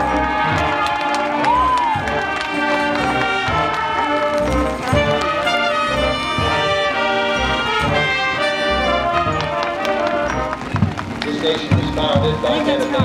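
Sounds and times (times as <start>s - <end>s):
brass sustained chords: 0.0s - 11.0s.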